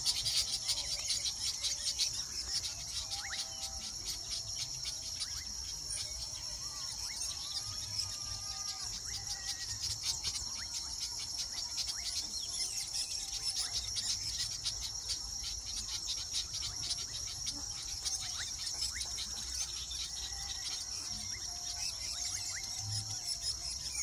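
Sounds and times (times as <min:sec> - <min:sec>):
birds chirping and chattering: 0:00.0 - 0:24.0
high-pitched insect drone: 0:00.0 - 0:24.0.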